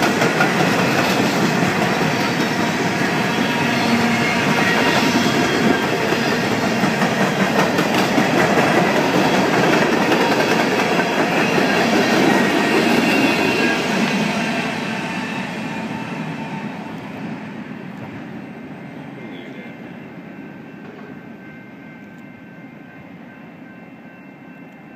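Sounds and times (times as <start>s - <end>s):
train wheels clattering on rails: 0.0s - 22.4s.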